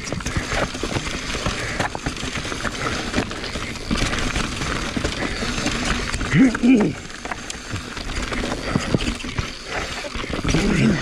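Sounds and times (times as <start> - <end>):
bike rattling and knocking: 0.0 - 11.0
bike tyre noise on dirt: 0.0 - 11.0.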